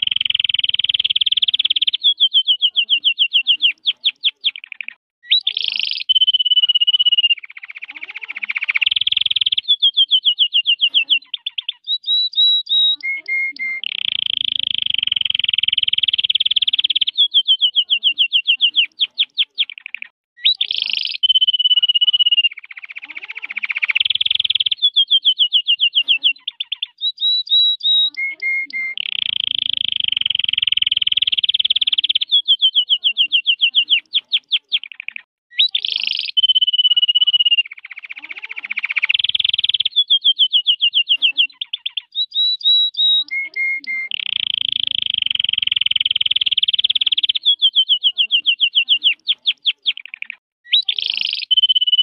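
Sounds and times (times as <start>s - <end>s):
canary singing: 0.0s - 52.0s.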